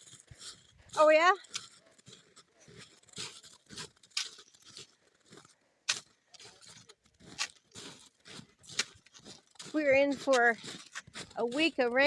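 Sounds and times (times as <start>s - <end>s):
footsteps crunching in frozen snow: 0.0s - 12.0s.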